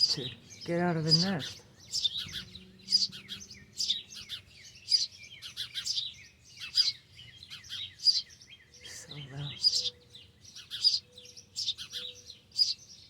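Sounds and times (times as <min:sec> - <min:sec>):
nestling birds chirping: 0:00.0 - 0:13.0.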